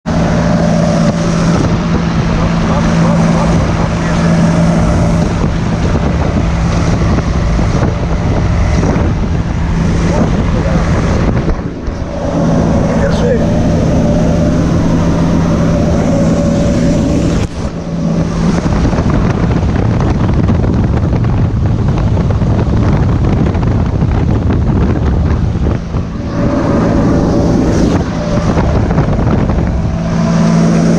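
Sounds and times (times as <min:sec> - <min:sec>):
aircraft engine and propeller droning: 0:00.0 - 0:30.9
wind rushing: 0:00.0 - 0:30.9.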